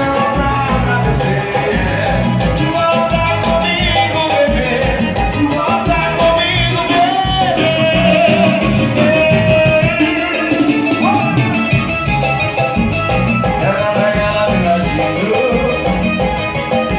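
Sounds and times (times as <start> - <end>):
dance music with pulsing bass: 0.0 - 16.9.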